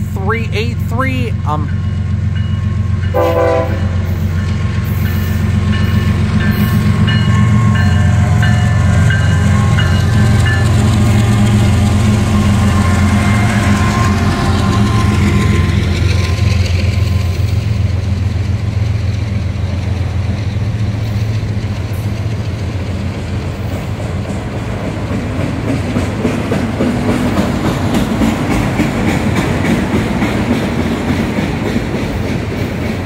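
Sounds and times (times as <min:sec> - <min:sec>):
locomotive engine hum: 0:00.0 - 0:33.0
train wheels rumbling on rails: 0:00.0 - 0:33.0
wheels clickety-clack: 0:04.1 - 0:12.6, 0:13.2 - 0:33.0.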